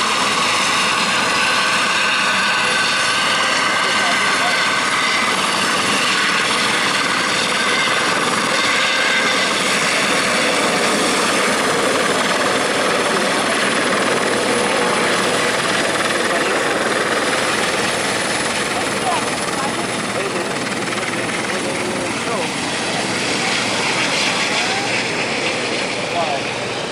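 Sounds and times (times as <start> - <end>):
helicopter flying past: 0.0 - 26.9.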